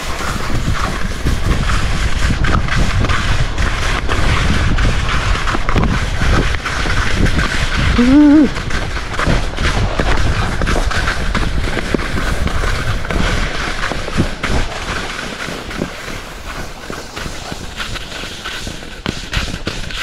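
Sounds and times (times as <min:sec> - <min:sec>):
skis sliding over snow: 0:00.0 - 0:20.0
wind buffeting microphone: 0:00.0 - 0:20.0.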